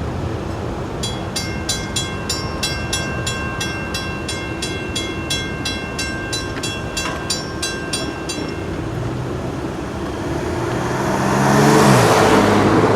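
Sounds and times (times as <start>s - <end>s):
passing train rumble: 0.0s - 12.9s
road vehicle engine: 0.0s - 12.9s
crossing bell ringing: 0.7s - 12.7s.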